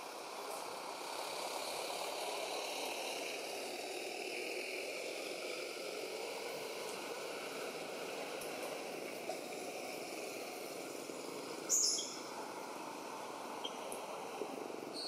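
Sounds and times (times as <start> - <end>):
steady rushing background noise: 0.0 - 15.0.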